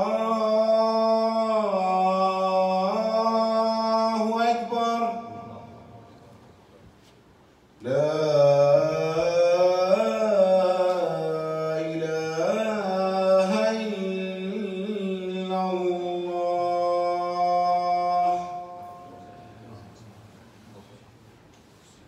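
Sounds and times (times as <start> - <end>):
man chanting into a microphone: 0.0 - 6.2, 7.8 - 20.0.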